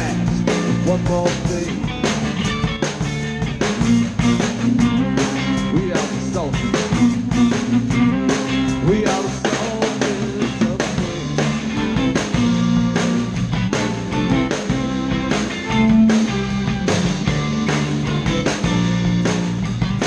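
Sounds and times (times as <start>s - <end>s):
drum kit beat: 0.0s - 20.0s
guitar and bass: 0.0s - 20.0s.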